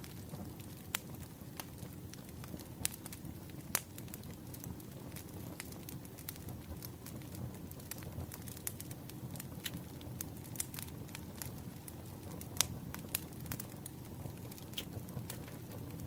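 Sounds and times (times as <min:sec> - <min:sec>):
burning wood rumble: 0:00.0 - 0:16.0
fire pops and snaps: 0:00.0 - 0:16.0.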